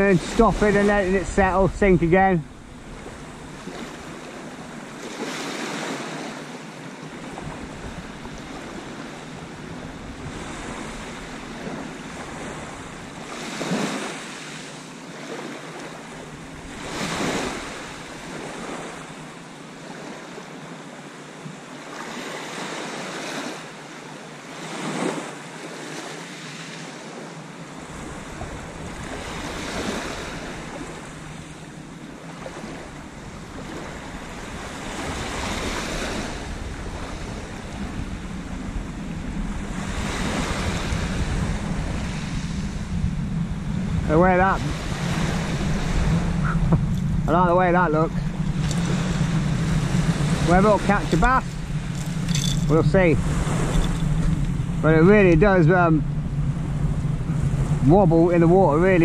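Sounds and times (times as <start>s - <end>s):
wind buffeting microphone: 0.0s - 6.4s, 7.0s - 14.9s, 15.6s - 19.5s, 27.7s - 59.0s
waves washing on shingle beach: 0.0s - 59.0s.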